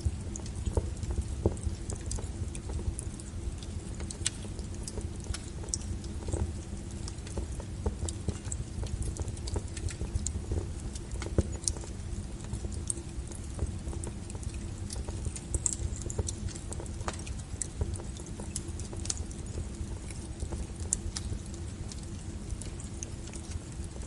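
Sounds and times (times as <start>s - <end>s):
burning logs crackling and popping: 0.0s - 24.0s
fire rumbling: 0.0s - 24.0s.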